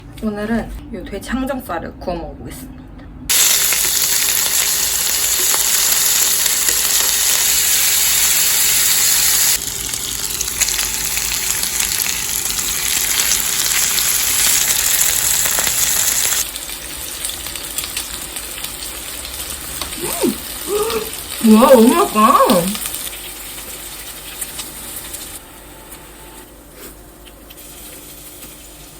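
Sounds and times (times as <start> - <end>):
meat sizzling on a hot surface: 3.3 - 25.4, 27.5 - 28.9.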